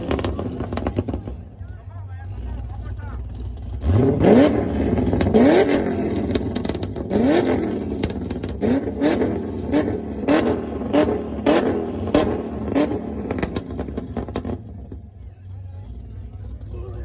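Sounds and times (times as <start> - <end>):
car engine revving: 0.0 - 17.0
exhaust cracks: 0.0 - 17.0.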